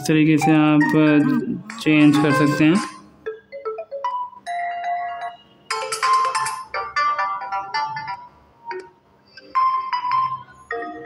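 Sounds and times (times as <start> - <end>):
phone ringtone melodies: 0.0 - 11.0.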